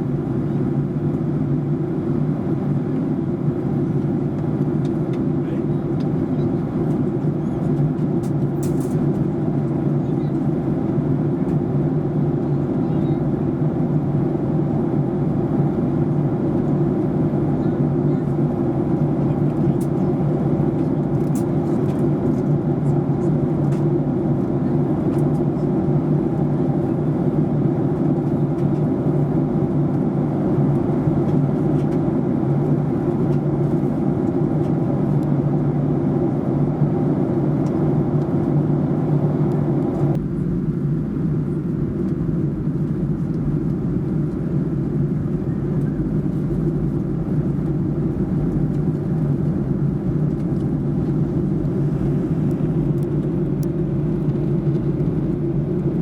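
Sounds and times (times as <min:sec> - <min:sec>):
airflow over fuselage: 0:00.0 - 0:56.0
jet engine drone: 0:00.0 - 0:56.0.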